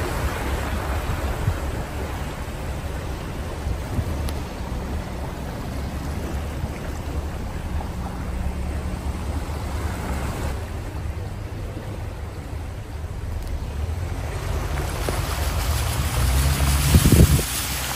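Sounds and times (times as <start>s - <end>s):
car engine and road rumble: 0.0s - 17.9s
water swishing against car: 0.0s - 17.9s.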